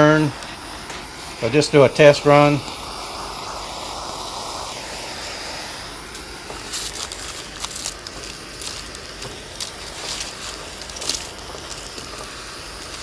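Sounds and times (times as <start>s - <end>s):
caramelizing sugar crackling: 0.0s - 13.0s
propane torch hissing: 0.0s - 13.0s.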